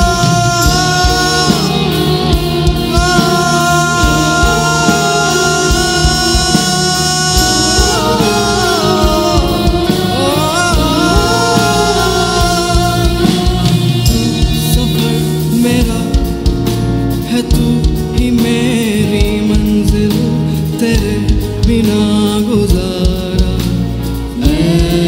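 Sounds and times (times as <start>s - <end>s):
drum kit strokes and cymbals: 0.0s - 25.0s
live band playing a ballad: 0.0s - 25.0s.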